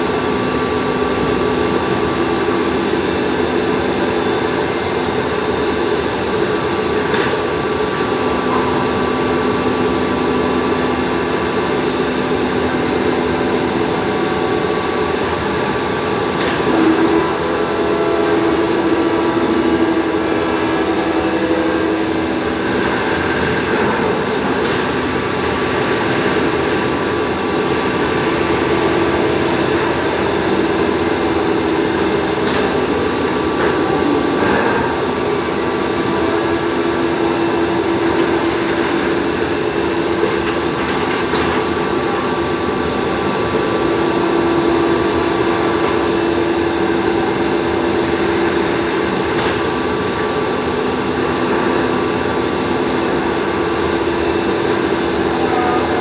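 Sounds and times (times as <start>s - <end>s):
drilling machine humming: 0.0s - 56.0s.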